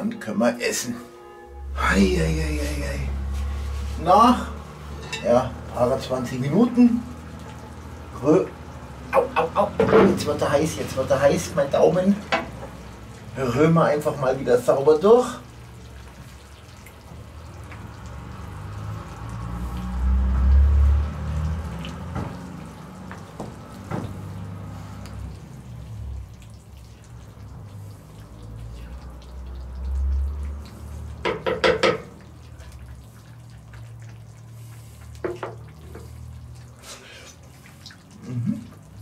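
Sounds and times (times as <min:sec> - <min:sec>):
stew simmering and bubbling: 0:00.0 - 0:39.0.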